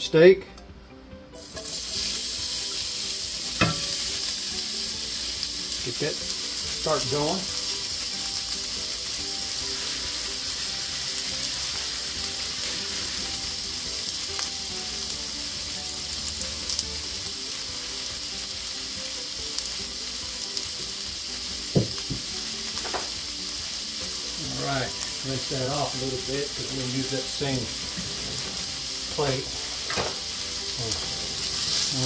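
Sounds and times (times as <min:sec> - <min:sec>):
meat sizzling in oil: 0:01.4 - 0:32.0.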